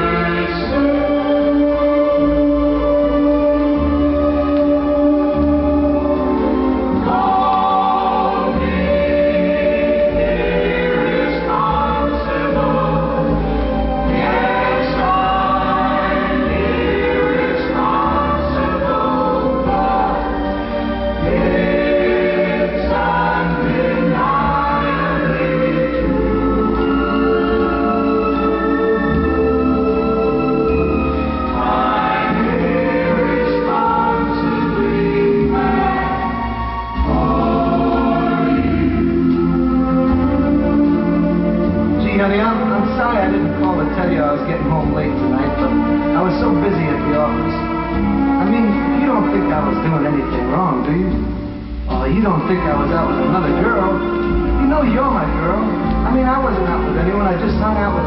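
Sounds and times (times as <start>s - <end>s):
choir singing: 0.0s - 58.0s
orchestral pop music: 0.0s - 58.0s.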